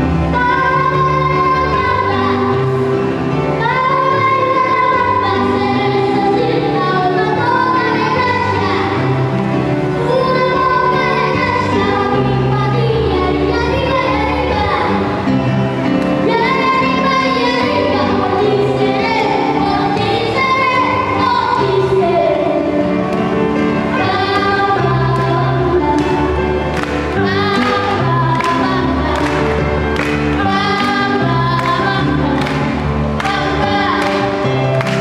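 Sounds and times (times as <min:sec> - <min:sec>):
children's choir singing a carol: 0:00.0 - 0:15.5, 0:16.2 - 0:35.0.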